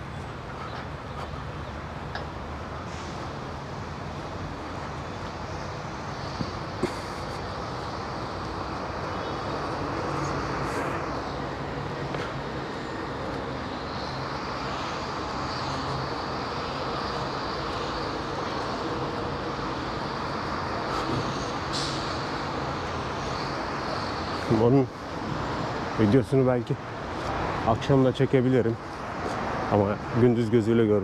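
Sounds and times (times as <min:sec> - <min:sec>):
city traffic hum: 0:00.0 - 0:31.0.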